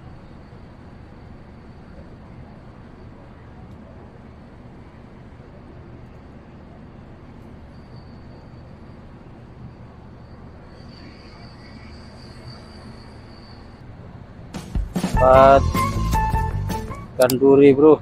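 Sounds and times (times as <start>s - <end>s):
faint high whine: 0.0s - 14.5s
ship machinery humming: 0.0s - 18.0s.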